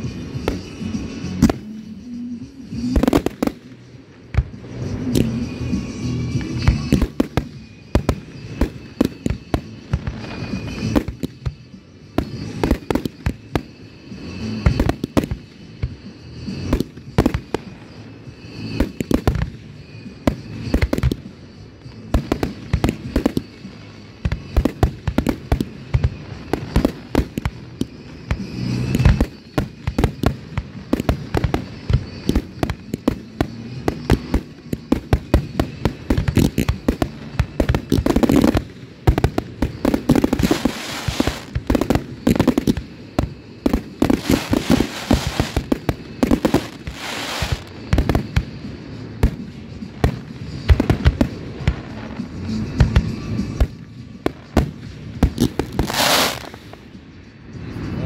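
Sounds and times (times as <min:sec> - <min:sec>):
fireworks bursting with bangs: 0:00.0 - 0:58.0
fireworks crackling: 0:00.0 - 0:58.0.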